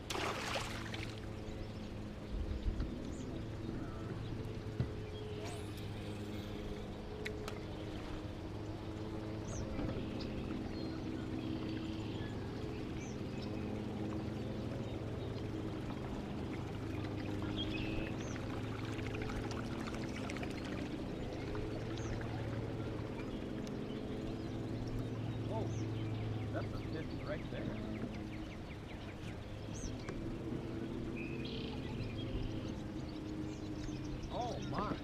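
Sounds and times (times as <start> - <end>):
water trickling and splashing: 0.0 - 35.0.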